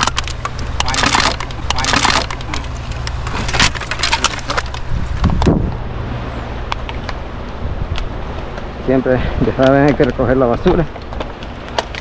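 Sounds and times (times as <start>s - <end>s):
litter crackling and rustling: 0.0s - 5.9s, 6.5s - 12.0s
steady low rumble: 0.0s - 12.0s.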